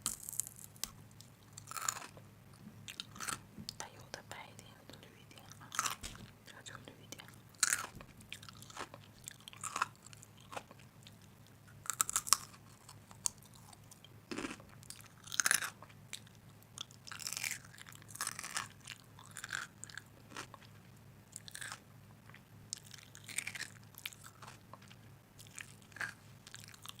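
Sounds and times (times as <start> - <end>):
person chewing crunchy food: 0.0 - 2.2, 2.8 - 3.5, 5.4 - 6.3, 7.2 - 27.0.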